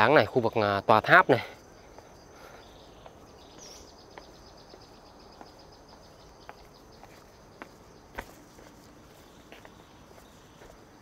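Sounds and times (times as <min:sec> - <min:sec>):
high pulsing wildlife chirping: 0:00.0 - 0:11.0
footsteps on path: 0:01.8 - 0:11.0.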